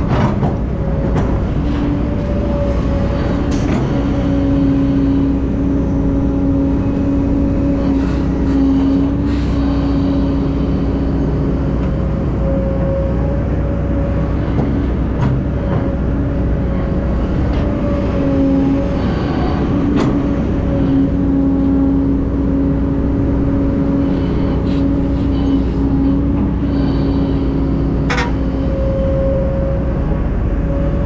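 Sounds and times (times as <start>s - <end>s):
heavy diesel machinery running: 0.0s - 31.0s.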